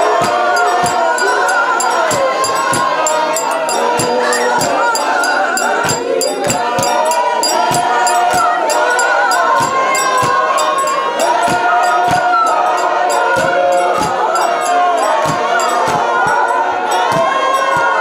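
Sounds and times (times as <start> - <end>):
congregation singing a hymn: 0.0 - 18.0
steady beat: 0.0 - 18.0.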